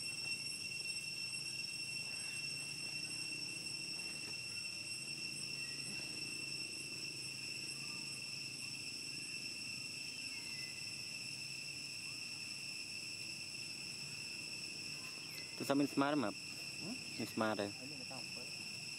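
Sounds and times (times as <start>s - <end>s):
insects droning: 0.0s - 18.9s.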